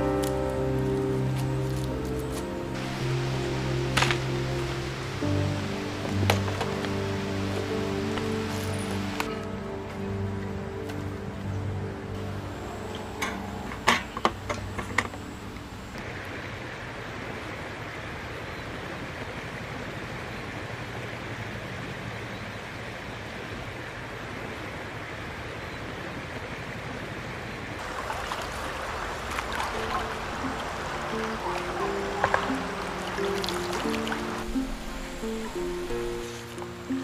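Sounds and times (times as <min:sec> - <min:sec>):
mountain stream rushing: 0:00.0 - 0:37.0.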